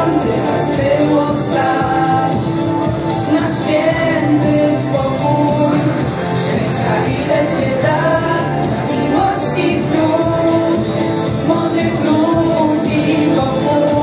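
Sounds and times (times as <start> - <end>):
pop backing track: 0.0 - 14.0
woman singing into a microphone: 0.0 - 14.0.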